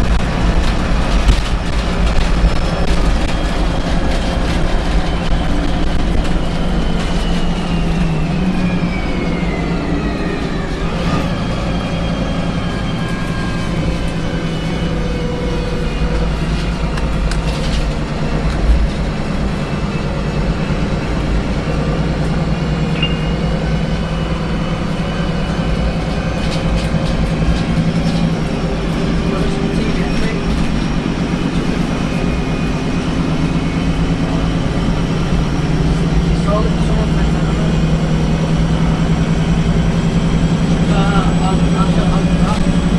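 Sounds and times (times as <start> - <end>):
bus body rattles and clicks: 0.0 - 42.9
bus engine and road drone: 0.0 - 42.9
high whine: 0.0 - 42.9.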